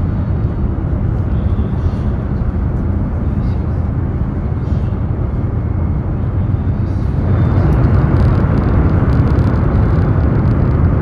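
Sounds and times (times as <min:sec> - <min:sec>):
train running noise inside car: 0:00.0 - 0:11.0.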